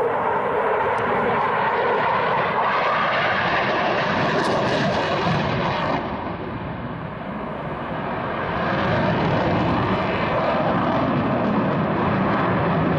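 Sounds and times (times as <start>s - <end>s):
jet engines roaring: 0.0s - 12.9s.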